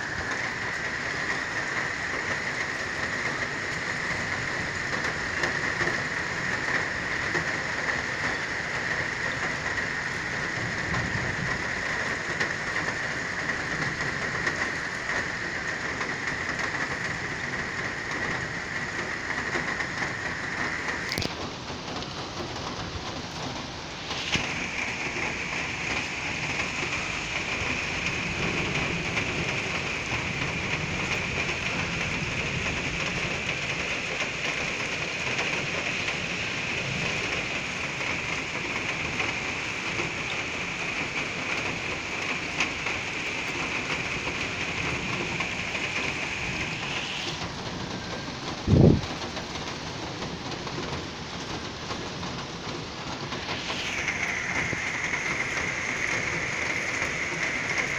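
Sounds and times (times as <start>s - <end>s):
faint thunder rumbles: 0.0s - 57.9s
heavy rain falling: 0.0s - 57.9s.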